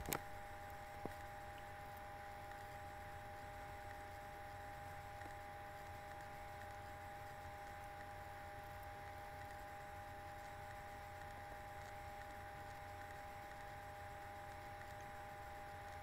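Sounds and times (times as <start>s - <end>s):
constant high whine: 0.0s - 16.0s
hiss and low hum: 0.0s - 16.0s.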